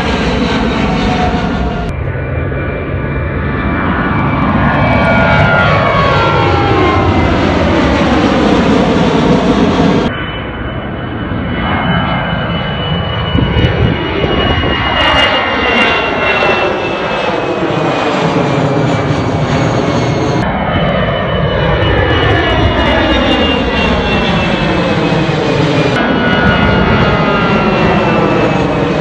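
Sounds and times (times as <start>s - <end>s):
high turbine whine: 0.0s - 29.0s
jet engines roaring: 0.0s - 29.0s.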